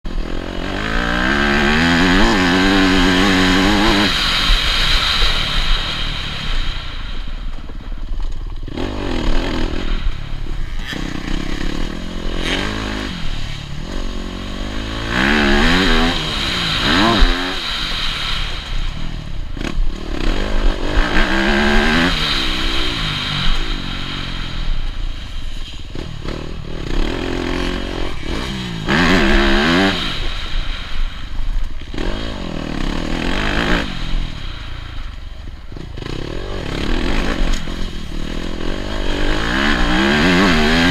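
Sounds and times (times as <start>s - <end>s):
motocross engine revving: 0.1s - 40.9s.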